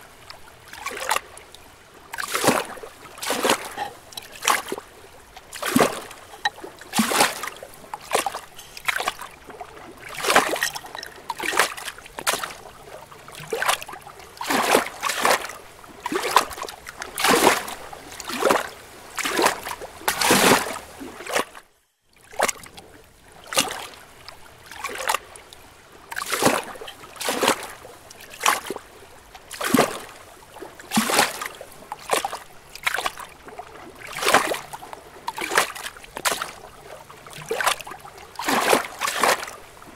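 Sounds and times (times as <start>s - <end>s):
water splashing and sloshing: 0.0s - 39.9s.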